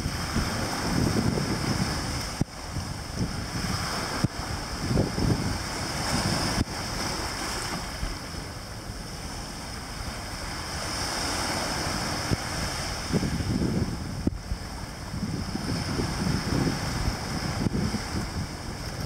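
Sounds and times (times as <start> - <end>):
waves washing on beach: 0.0 - 19.0
wind buffeting microphone: 0.0 - 19.0.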